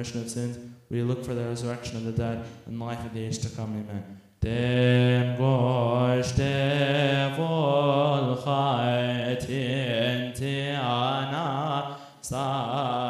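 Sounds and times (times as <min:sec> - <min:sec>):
man chanting a hymn: 0:00.0 - 0:13.0.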